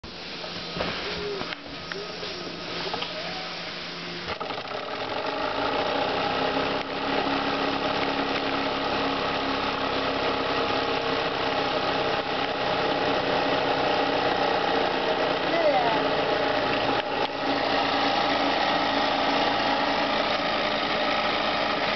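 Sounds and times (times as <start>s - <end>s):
model steam engine running: 1.1s - 21.9s.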